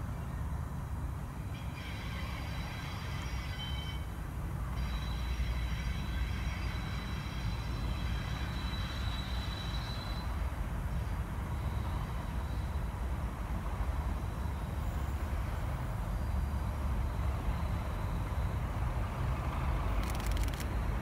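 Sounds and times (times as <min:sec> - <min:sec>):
diesel locomotives rumbling: 0:00.0 - 0:21.0.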